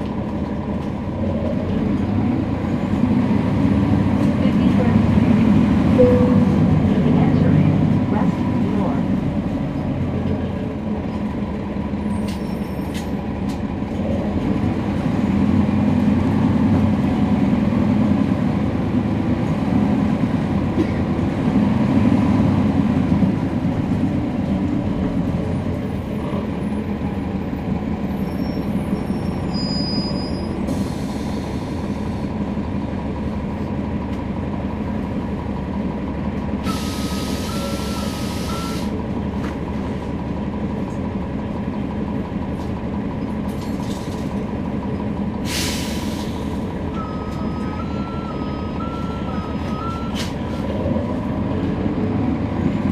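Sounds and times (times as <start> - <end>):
bus engine droning: 0.0 - 52.9.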